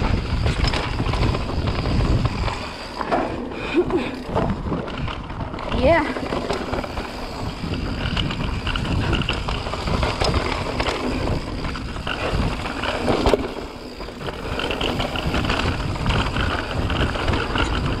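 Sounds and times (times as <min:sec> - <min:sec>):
bike rattling over bumps: 0:00.0 - 0:18.0
wind rumbling on microphone: 0:00.0 - 0:18.0.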